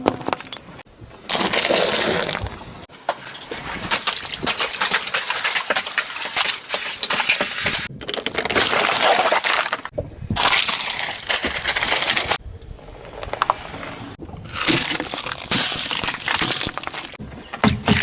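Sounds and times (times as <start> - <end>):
things being crushed crackling: 0.0 - 12.4, 14.4 - 18.0.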